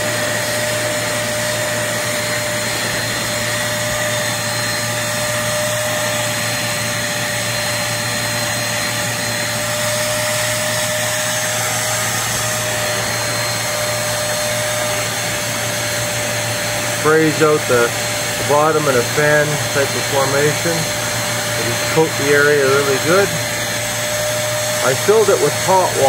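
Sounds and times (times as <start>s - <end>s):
spot cleaner suction motor whine: 0.0s - 26.0s.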